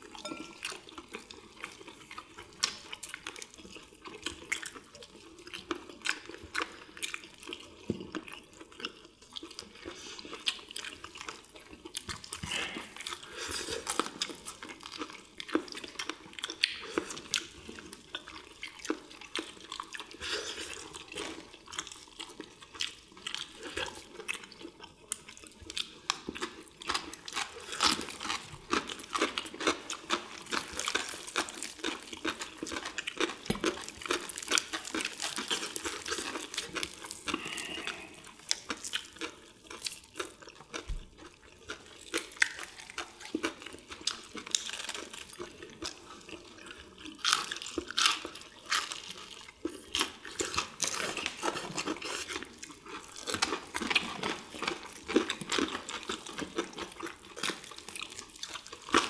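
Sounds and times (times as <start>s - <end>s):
people crunching fried food: 0.0s - 59.0s.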